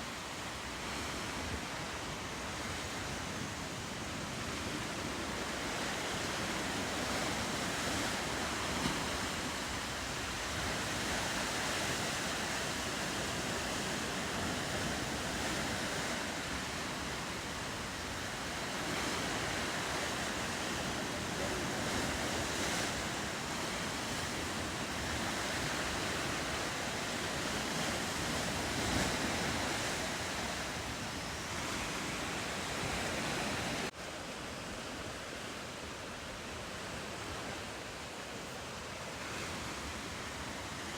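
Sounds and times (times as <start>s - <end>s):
ocean surf washing against coast: 0.0s - 40.9s.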